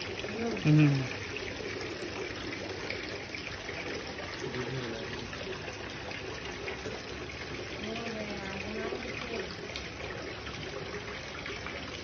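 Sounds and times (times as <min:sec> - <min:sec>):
fountain water trickling: 0:00.0 - 0:12.0.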